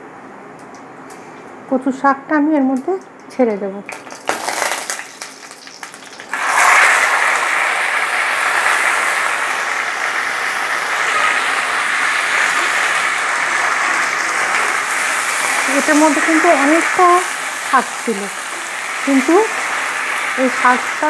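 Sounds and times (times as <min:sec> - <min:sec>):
leaves sizzling in hot oil: 0:03.9 - 0:21.0.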